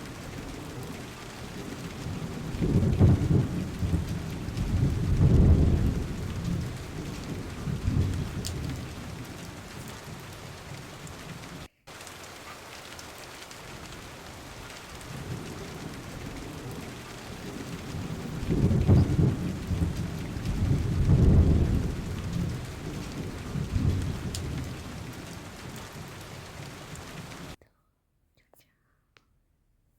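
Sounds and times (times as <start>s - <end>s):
rolling thunder: 0.0s - 11.7s, 13.7s - 27.6s
steady rain: 0.0s - 27.6s.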